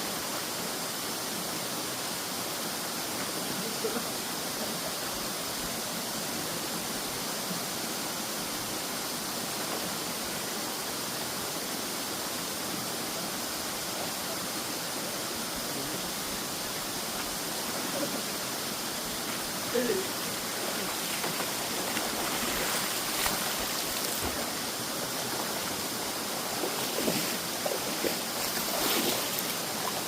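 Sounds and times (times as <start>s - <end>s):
waterfall pouring into pool: 0.1s - 30.0s.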